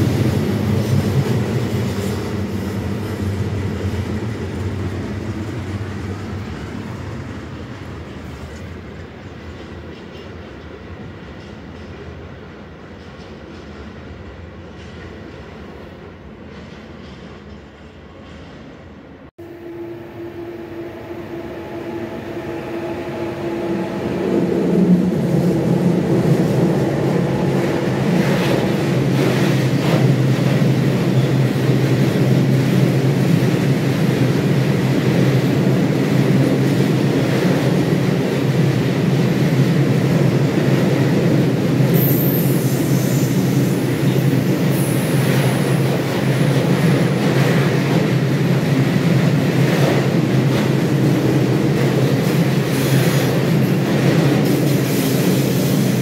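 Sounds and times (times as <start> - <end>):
train wheels rumbling on rails: 0.0 - 19.2, 20.4 - 56.0
train hum: 0.0 - 56.0.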